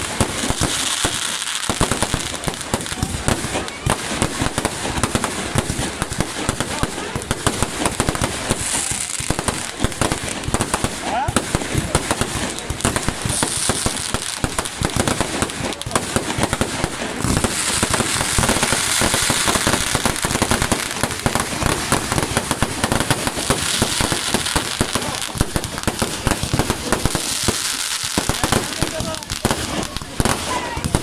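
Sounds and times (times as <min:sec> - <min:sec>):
fireworks banging and crackling: 0:00.0 - 0:31.0.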